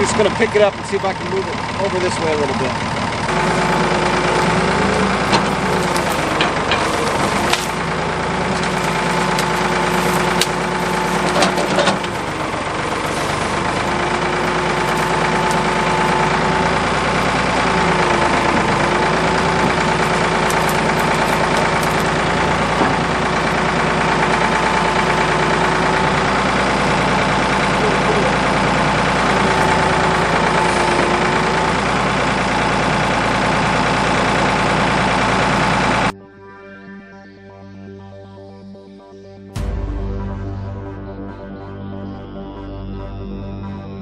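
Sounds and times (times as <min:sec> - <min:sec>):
diesel engine under load: 0:00.0 - 0:36.1.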